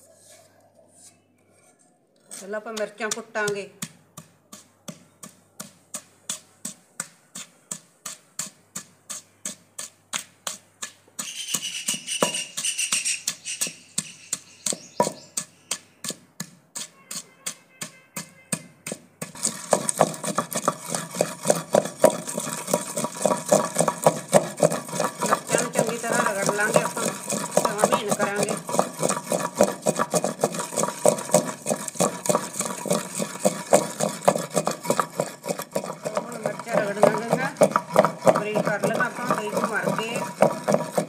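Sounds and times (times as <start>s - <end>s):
pestle pounding in clay pot: 2.3s - 41.0s.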